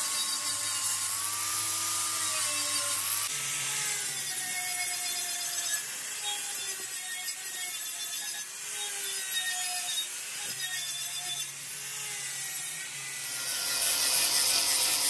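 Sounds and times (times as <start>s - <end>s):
angle grinder sanding metal: 0.0s - 15.0s.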